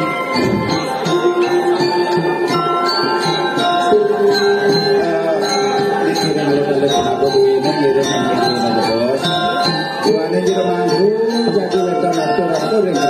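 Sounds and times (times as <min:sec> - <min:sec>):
gamelan ensemble playing: 0:00.0 - 0:13.0.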